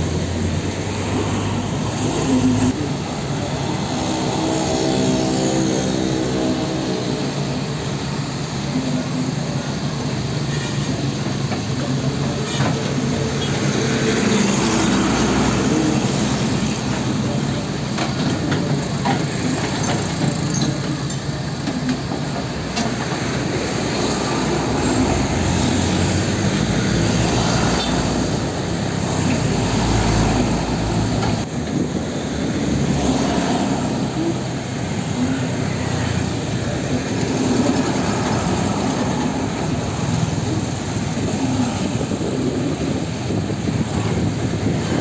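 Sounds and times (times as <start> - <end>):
diesel engine under load: 0.0 - 45.0
steel tracks clanking: 0.0 - 45.0.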